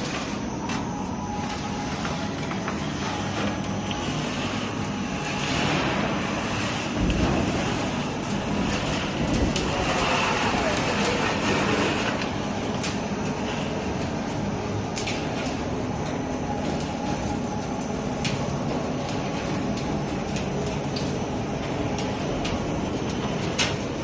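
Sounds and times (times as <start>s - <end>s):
tile forming machine running: 0.0s - 24.0s.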